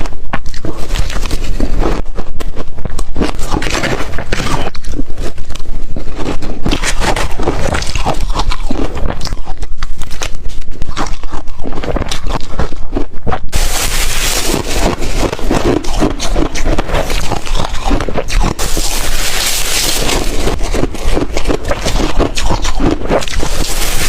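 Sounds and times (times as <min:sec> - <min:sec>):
ice crunching between teeth: 0:00.0 - 0:24.0.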